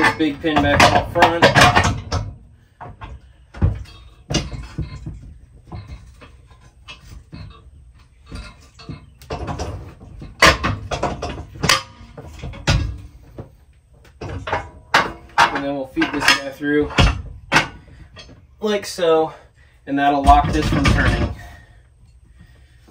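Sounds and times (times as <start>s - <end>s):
metal parts knocking and rattling: 0.0s - 18.5s, 20.2s - 21.7s
metal clunks: 0.0s - 19.4s, 20.0s - 21.8s.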